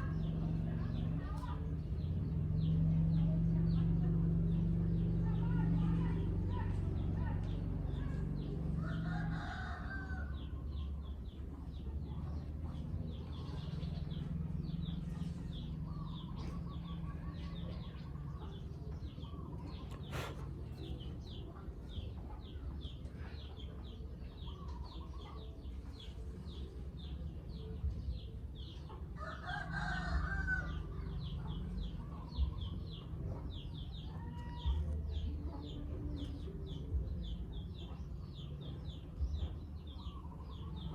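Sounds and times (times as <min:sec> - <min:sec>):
chickens clucking and crowing: 0:03.9 - 0:40.9.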